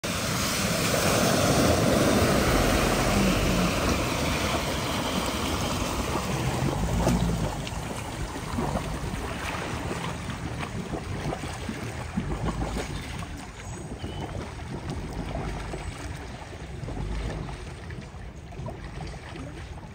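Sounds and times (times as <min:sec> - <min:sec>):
vehicle driving through floodwater: 0:00.0 - 0:19.9
water rushing and splashing: 0:00.0 - 0:19.9.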